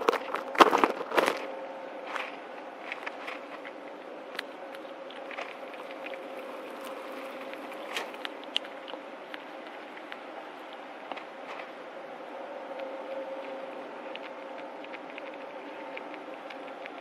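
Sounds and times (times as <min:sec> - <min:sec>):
faint hum: 0:00.0 - 0:17.0
squirrel cracking seeds: 0:00.0 - 0:17.0.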